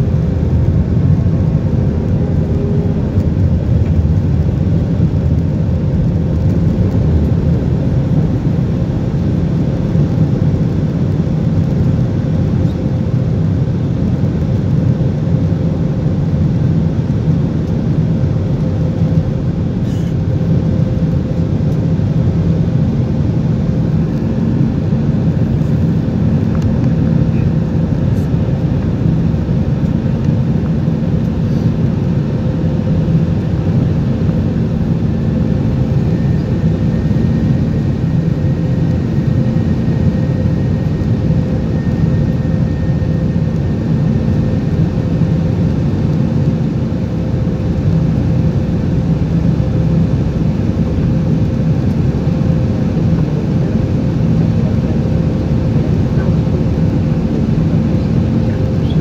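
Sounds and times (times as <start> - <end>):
jet engine rumble: 0.0 - 59.0.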